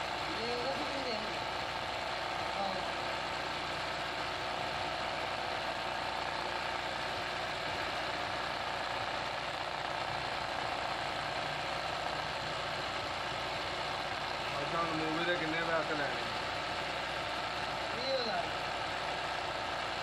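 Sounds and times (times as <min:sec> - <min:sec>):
sewing machine running: 0:00.0 - 0:20.0.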